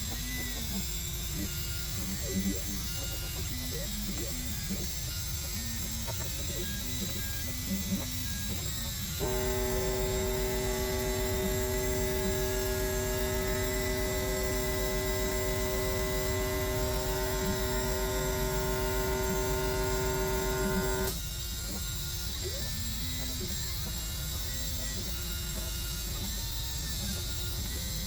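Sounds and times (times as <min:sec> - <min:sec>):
laser cutter humming with high tone: 0:00.0 - 0:28.0.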